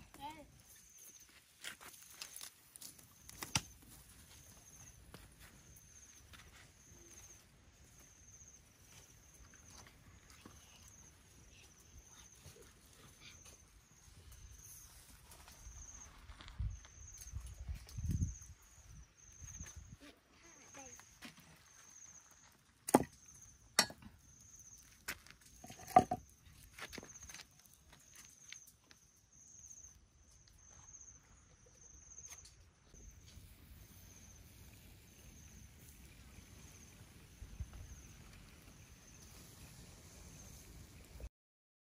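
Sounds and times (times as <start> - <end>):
insect chirping: 0.0 - 41.3.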